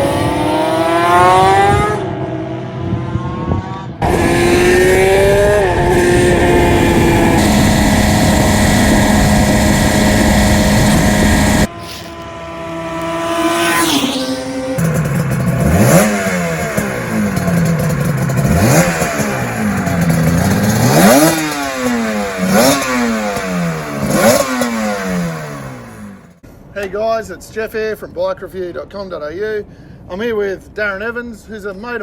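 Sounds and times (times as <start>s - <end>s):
two-stroke motorcycle engine revving: 0.0s - 26.4s.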